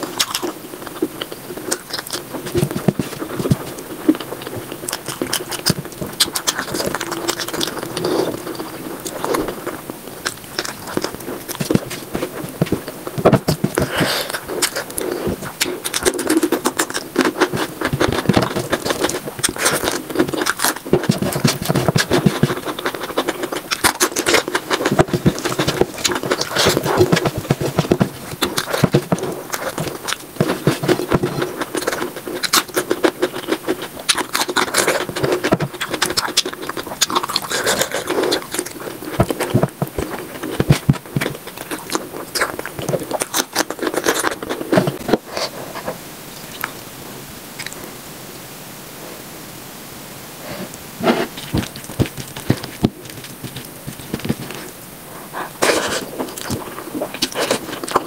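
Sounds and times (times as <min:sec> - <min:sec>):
wet chewing and crunching: 0:00.0 - 0:46.8, 0:47.5 - 0:47.9, 0:50.7 - 0:58.0.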